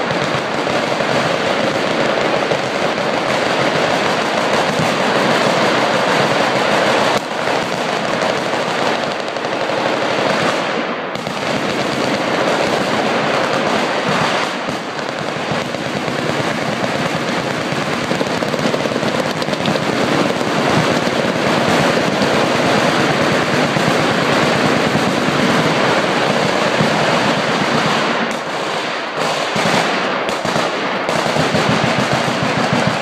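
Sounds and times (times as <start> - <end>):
machine guns firing: 0.0 - 33.0.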